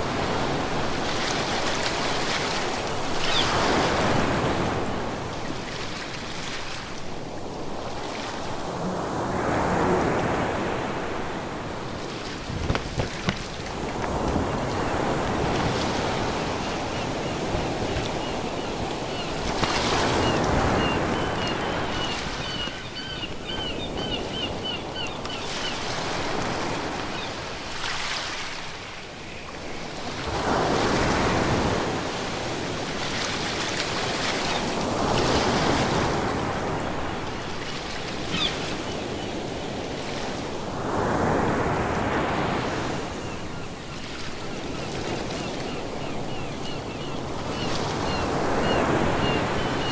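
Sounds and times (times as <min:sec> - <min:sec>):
ocean waves breaking: 0:00.0 - 0:28.9, 0:30.0 - 0:49.9.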